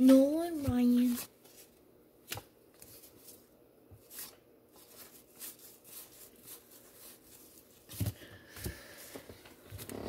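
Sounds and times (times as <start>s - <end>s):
cards being leafed through: 0.0s - 8.2s.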